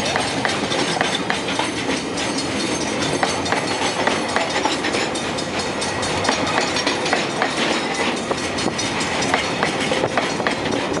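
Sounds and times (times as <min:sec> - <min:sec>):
train wheels rolling on rail: 0:00.0 - 0:11.0
wheels clicking over rail joints: 0:00.0 - 0:11.0.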